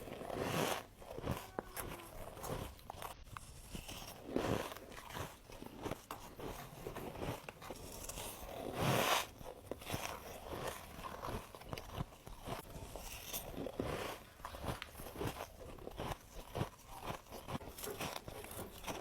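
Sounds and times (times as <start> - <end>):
ice crunching between teeth: 0.0 - 19.0
person chewing ice: 0.0 - 19.0.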